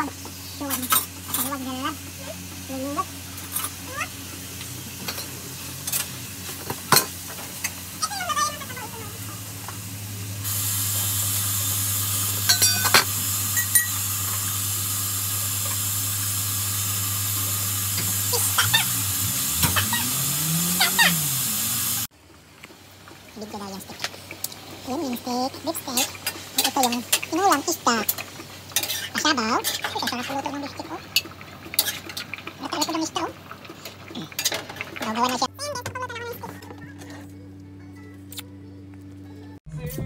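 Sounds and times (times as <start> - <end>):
meat and onions sizzling: 0.0 - 35.5.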